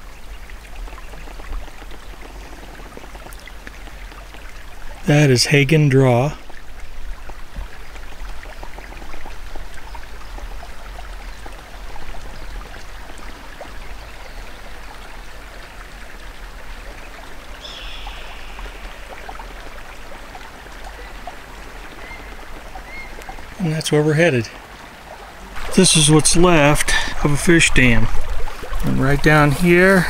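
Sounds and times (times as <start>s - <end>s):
creek rushing and trickling: 0.0s - 30.0s.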